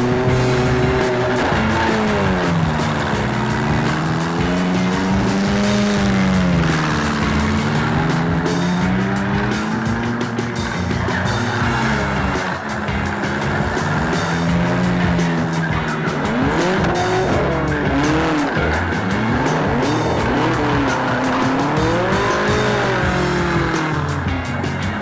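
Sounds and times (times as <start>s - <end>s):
background music with steady beat: 0.0s - 25.0s
race car engines revving: 0.0s - 25.0s
tires squealing: 0.0s - 25.0s.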